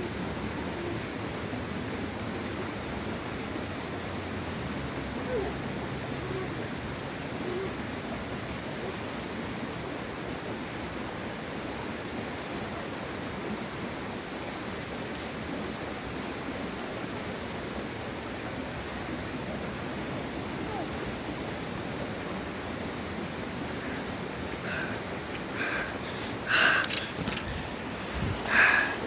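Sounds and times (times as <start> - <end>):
steady rushing outdoor noise: 0.0 - 29.0.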